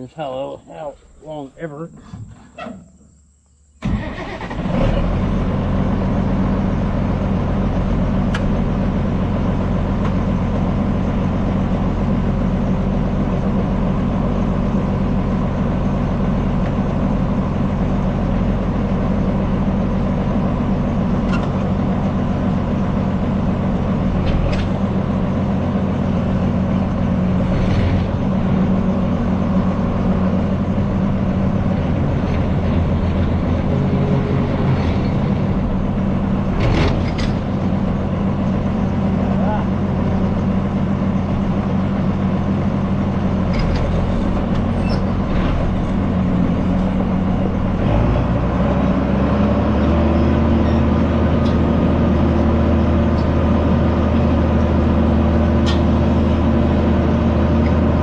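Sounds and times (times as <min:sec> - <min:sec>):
tractor engine running: 0:03.2 - 0:58.0.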